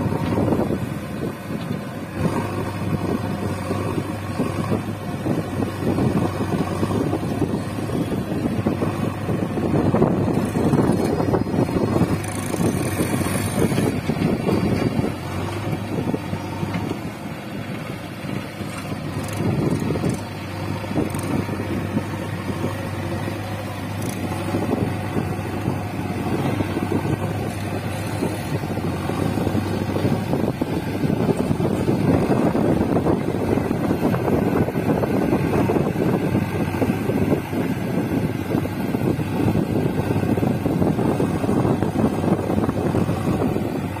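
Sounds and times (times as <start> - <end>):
backhoe loader diesel engine: 0.0 - 44.0
tractor diesel engine: 0.0 - 44.0.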